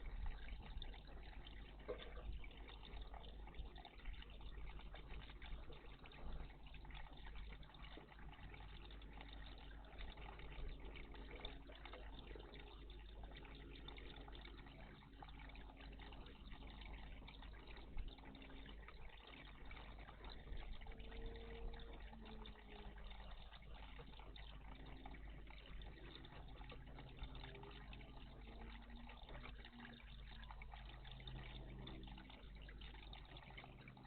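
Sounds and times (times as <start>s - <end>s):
water trickling in bird bath: 0.0s - 34.0s.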